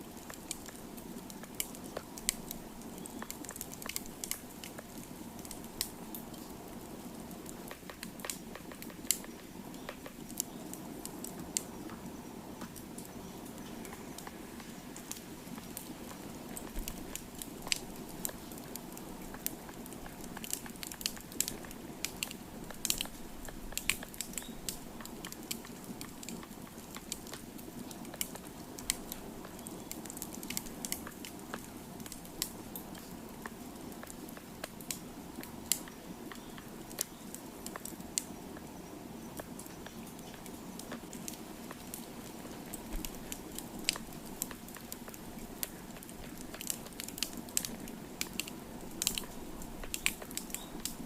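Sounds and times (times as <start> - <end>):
fire popping and snapping: 0.0 - 51.0
wood fire crackling: 0.0 - 51.0.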